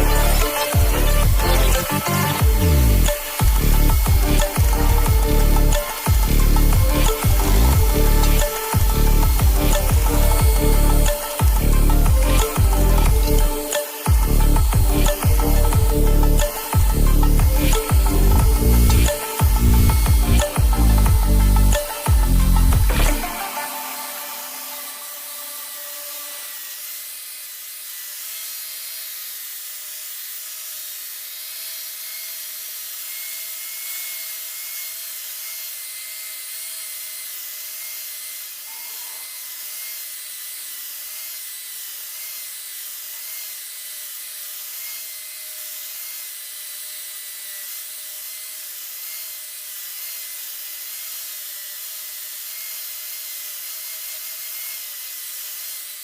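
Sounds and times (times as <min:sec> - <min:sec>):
electric power tool whine: 0:00.0 - 0:56.0.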